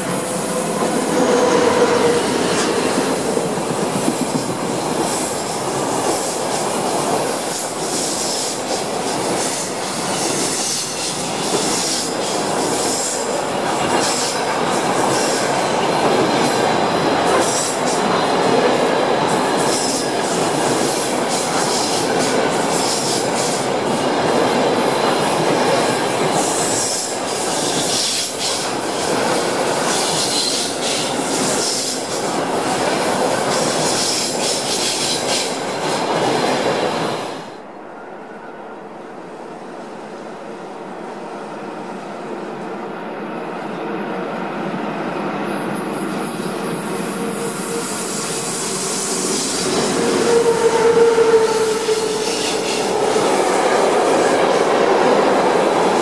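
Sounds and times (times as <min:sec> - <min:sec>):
electric locomotives passing: 0:00.0 - 0:56.0.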